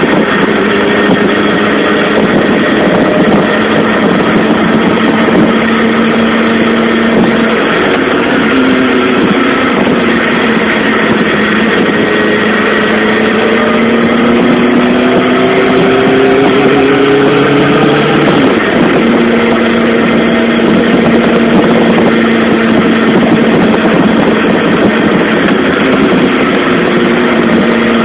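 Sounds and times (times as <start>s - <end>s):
motorcycle engine accelerating: 0.0s - 28.0s
wind and road noise: 0.0s - 28.0s.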